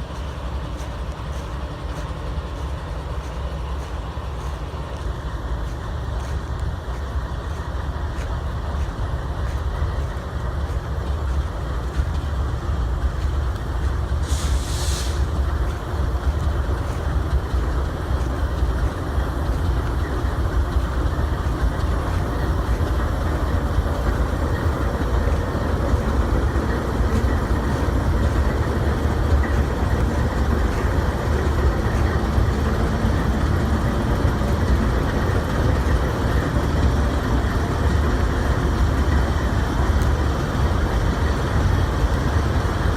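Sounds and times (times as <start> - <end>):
freight train rumbling by: 0.0 - 42.9.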